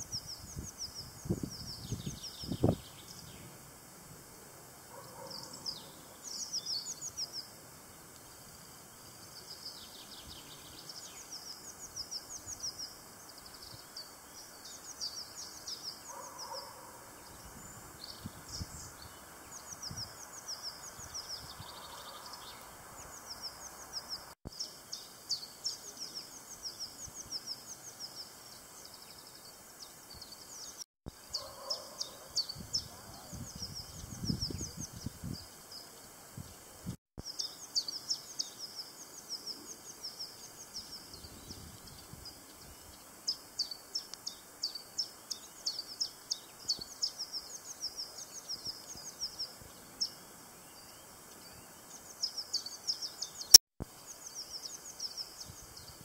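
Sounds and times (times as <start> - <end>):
small birds chirping: 0.0 - 3.6, 4.9 - 56.0.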